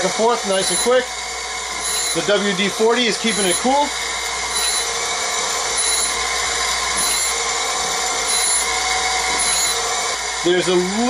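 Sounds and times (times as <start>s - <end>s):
grinding wheel on steel blade: 0.0s - 11.0s.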